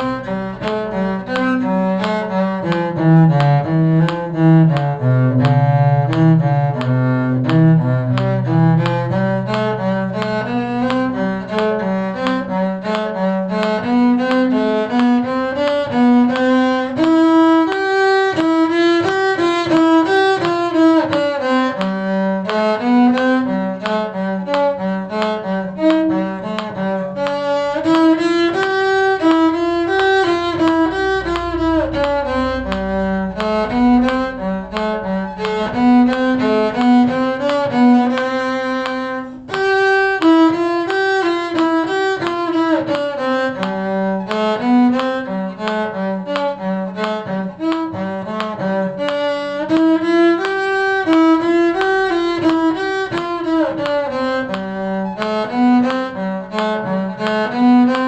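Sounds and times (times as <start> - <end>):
cello bass line: 0.0 - 58.0
violin melody: 0.0 - 58.0.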